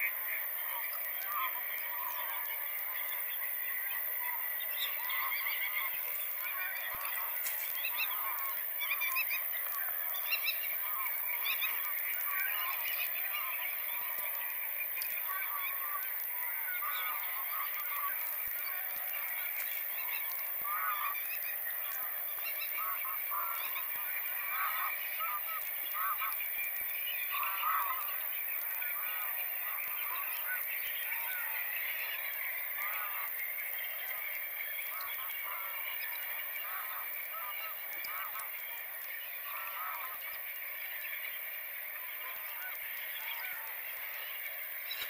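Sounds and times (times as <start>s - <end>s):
flock of geese honking: 0.0s - 45.0s.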